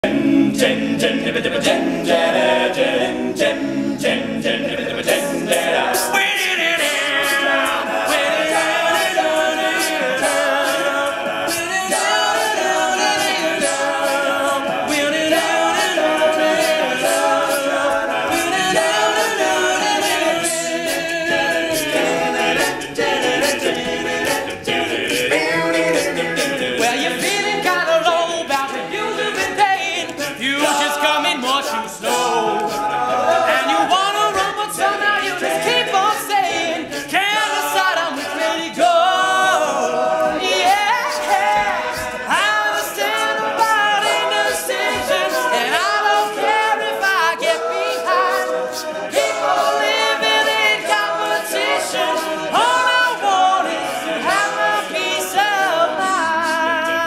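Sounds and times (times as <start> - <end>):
male group singing a cappella: 0.0 - 57.0.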